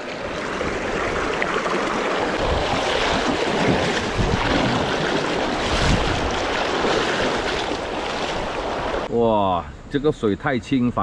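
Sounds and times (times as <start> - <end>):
stream water rushing over rocks: 0.0 - 9.1.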